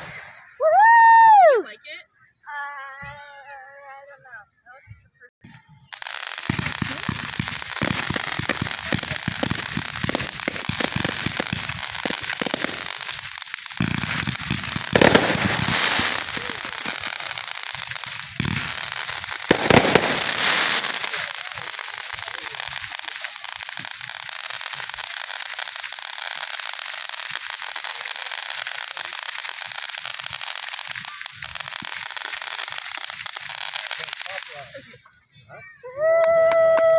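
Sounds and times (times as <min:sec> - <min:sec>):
fireworks crackling and popping: 0:05.4 - 0:35.1.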